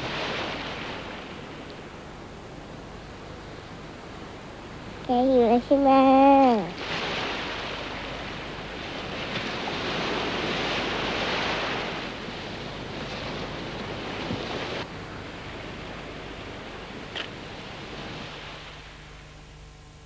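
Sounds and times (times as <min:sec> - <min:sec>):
rushing wind: 0:00.0 - 0:05.0, 0:06.3 - 0:19.2
faint hiss: 0:00.0 - 0:20.0.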